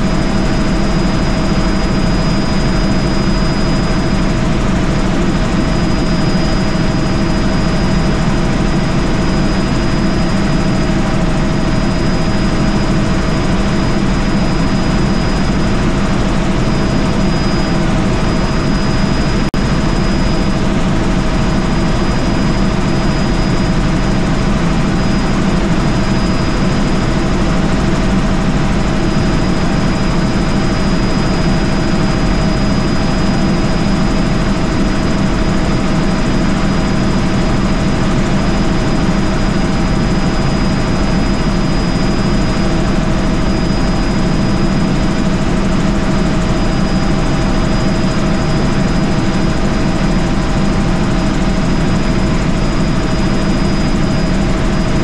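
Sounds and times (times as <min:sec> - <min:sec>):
helicopter turbine and rotor drone: 0:00.0 - 0:55.0
thin high whine: 0:00.0 - 0:55.0.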